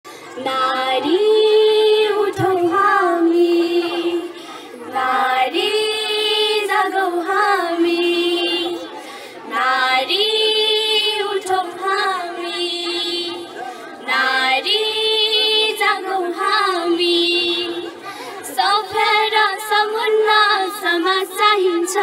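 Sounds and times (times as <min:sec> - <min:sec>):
girls singing into a microphone: 0:00.1 - 0:22.0.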